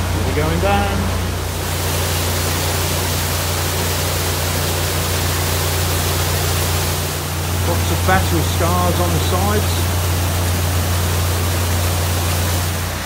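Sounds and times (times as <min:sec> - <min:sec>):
water rushing into lock chamber: 0:00.0 - 0:13.0.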